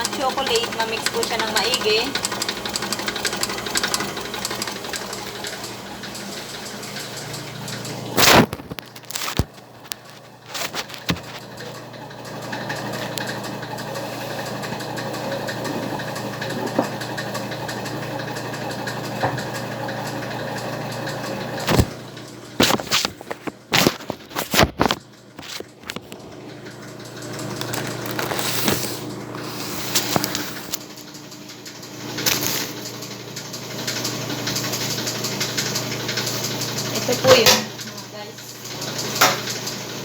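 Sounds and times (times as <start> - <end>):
electric mixer motor running: 0.0 - 9.4, 10.4 - 23.4, 26.1 - 40.0.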